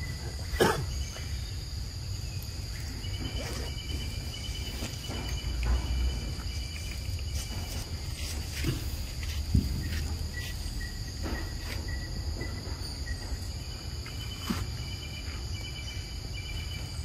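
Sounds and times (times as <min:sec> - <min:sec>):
insects calling high-pitched: 0:00.0 - 0:17.0
rapid pulsing insect trill: 0:00.0 - 0:17.0.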